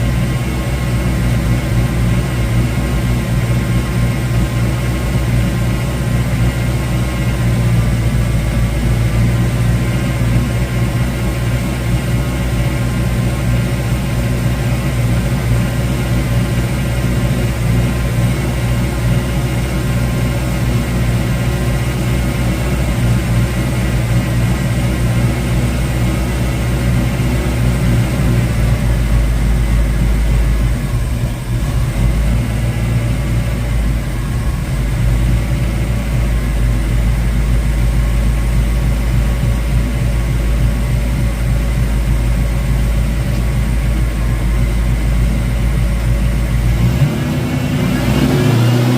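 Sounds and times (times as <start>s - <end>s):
car engine idling with low rumble: 0.0s - 48.9s.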